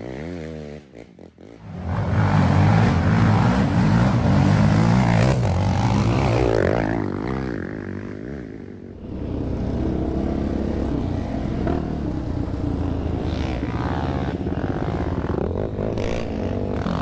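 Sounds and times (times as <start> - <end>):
quad engine running under throttle: 0.0 - 17.0.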